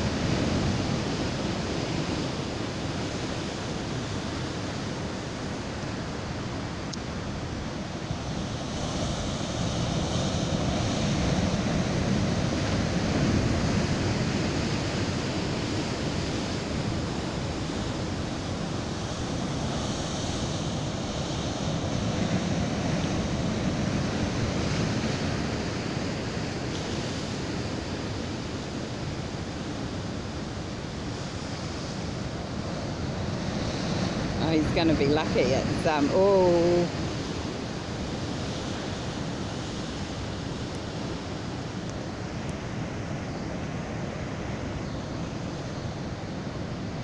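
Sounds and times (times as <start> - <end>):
heavy surf breaking on rocks: 0.0 - 47.0.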